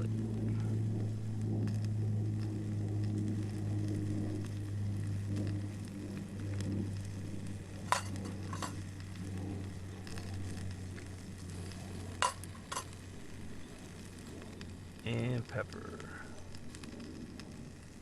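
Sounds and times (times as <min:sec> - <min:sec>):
food sizzling on a grill: 0:00.0 - 0:18.0
steady low hum: 0:00.0 - 0:18.0.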